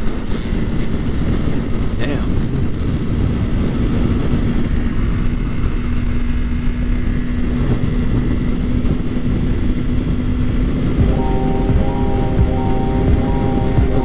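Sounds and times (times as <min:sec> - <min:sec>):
motorcycle engine cruising: 0:00.0 - 0:14.0
rushing wind noise: 0:00.0 - 0:14.0.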